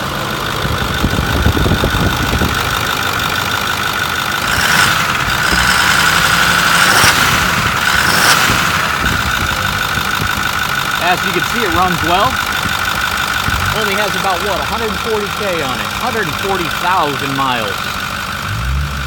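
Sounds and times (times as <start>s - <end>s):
diesel engine idling: 0.0s - 19.0s
engine whine: 0.0s - 19.0s.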